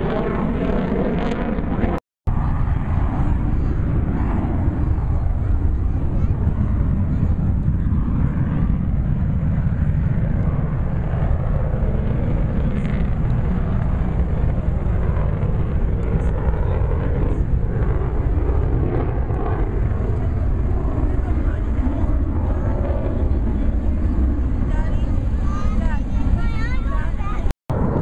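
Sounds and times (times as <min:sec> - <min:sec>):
airplane flying overhead: 0:00.0 - 0:28.0.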